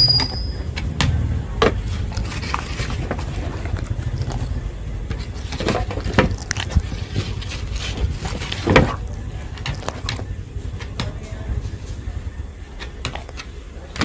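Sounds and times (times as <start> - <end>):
steady low rumble: 0.0 - 14.0
dog chewing and eating: 1.6 - 14.0.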